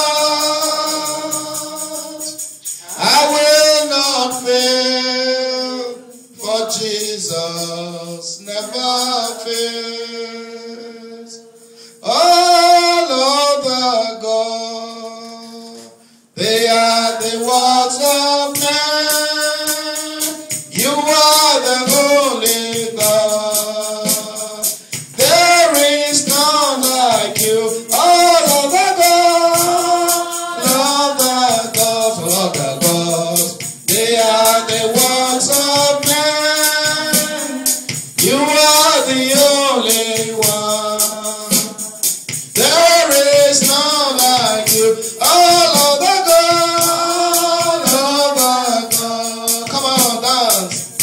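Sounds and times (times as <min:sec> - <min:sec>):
gospel chorus singing: 0:00.0 - 0:51.0
tambourine beating time: 0:00.0 - 0:51.0.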